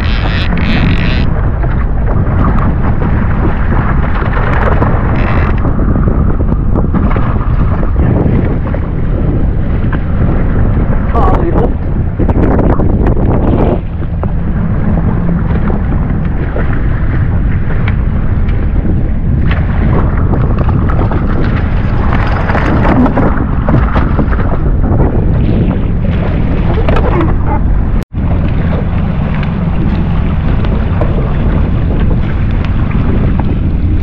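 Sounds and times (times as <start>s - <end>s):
water sloshing and splashing: 0.0s - 34.0s
wind buffeting microphone: 0.0s - 34.0s.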